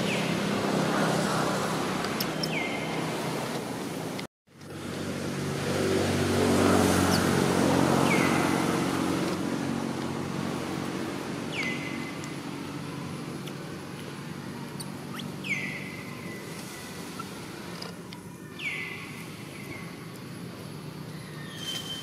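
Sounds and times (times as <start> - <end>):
vehicle engine passing by: 0.0 - 17.9.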